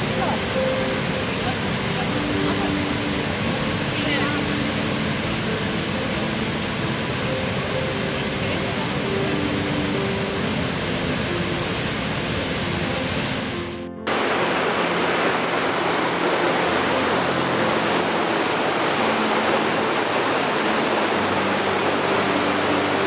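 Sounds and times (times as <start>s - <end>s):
stream cascading over rocks: 0.0s - 23.0s
waterfall rushing: 0.0s - 23.0s.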